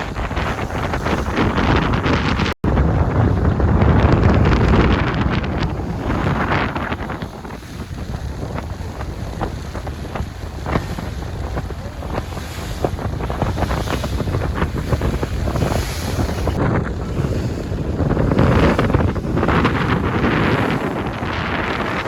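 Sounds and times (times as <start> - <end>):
boat and water rushing: 0.0 - 22.0
wind buffeting microphone: 0.0 - 22.0.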